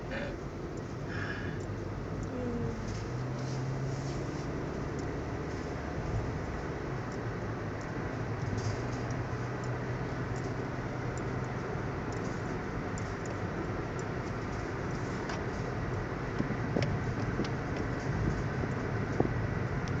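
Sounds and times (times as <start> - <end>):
car tyres and engine rushing: 0.0 - 20.0.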